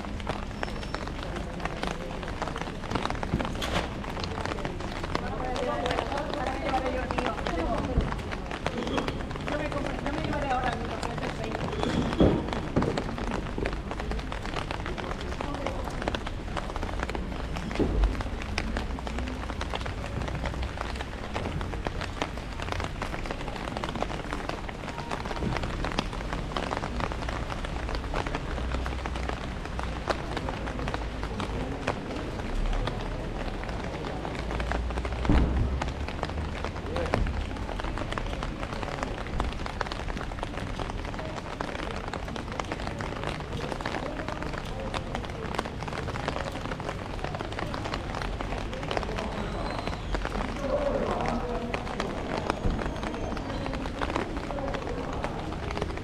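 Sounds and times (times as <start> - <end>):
rain pattering on umbrella: 0.0 - 56.0.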